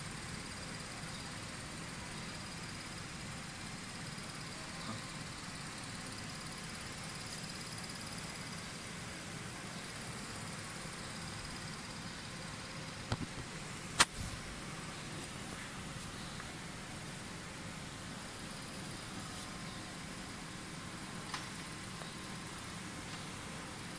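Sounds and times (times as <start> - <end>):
machine hum with high whine: 0.0 - 23.9.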